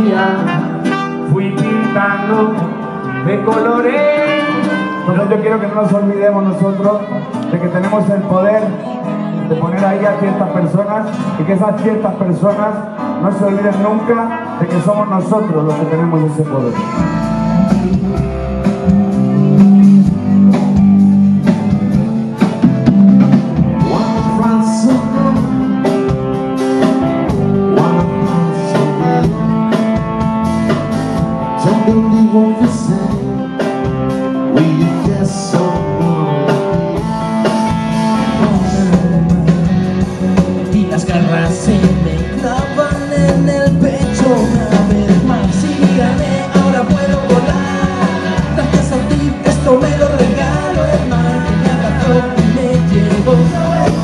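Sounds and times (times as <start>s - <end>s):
drums: 0.0s - 14.1s, 14.7s - 54.0s
man singing into microphone: 0.0s - 18.4s, 23.8s - 26.2s, 27.3s - 29.8s, 31.5s - 33.8s, 34.4s - 37.1s, 38.0s - 54.0s
bass guitar: 0.0s - 54.0s
electric guitars: 0.0s - 54.0s.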